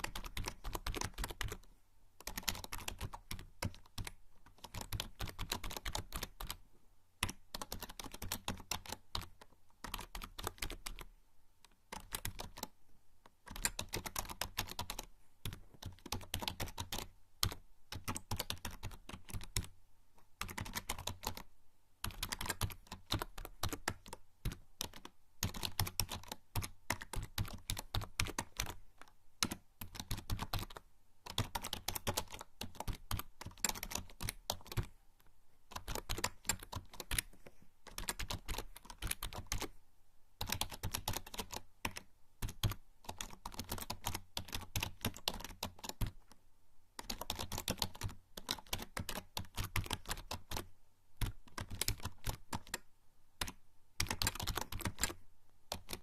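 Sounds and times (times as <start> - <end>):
membrane keyboard typing: 0.0 - 6.6, 7.2 - 11.1, 11.7 - 12.8, 13.4 - 34.9, 35.7 - 39.8, 40.4 - 46.4, 47.0 - 56.0.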